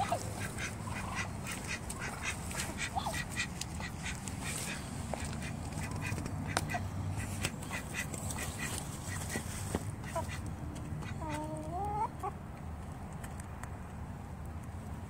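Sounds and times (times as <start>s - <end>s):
ducks quacking: 0.0s - 12.3s.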